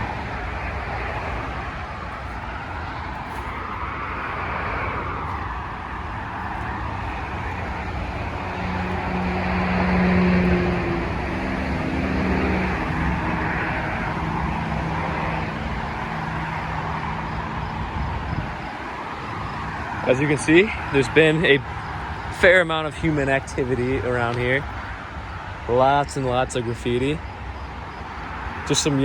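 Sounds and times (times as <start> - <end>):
low engine drone: 0.0 - 24.8
highway traffic tyre noise: 0.0 - 29.0.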